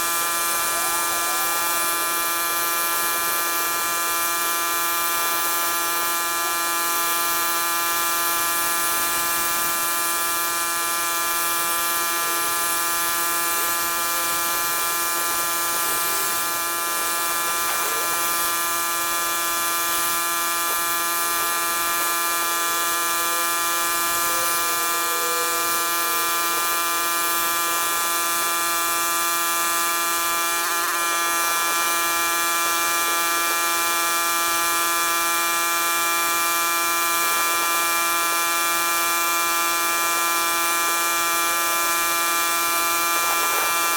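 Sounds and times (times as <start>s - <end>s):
pressure washer running: 0.0s - 43.9s.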